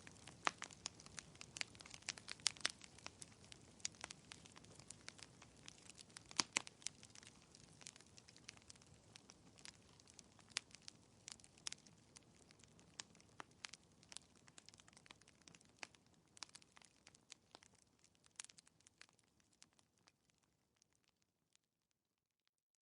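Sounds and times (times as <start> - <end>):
faint low hiss: 0.0 - 19.4
wood fire crackling: 0.0 - 21.2.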